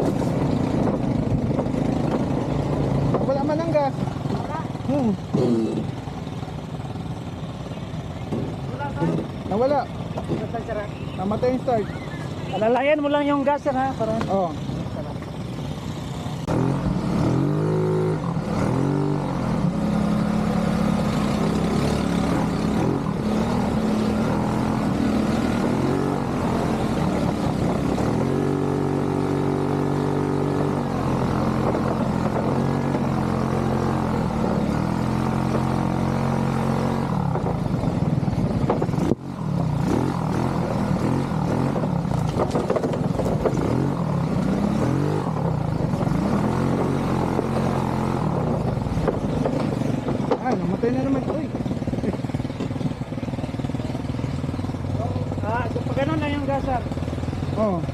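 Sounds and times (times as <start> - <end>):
atv engine revving: 0.0 - 57.9.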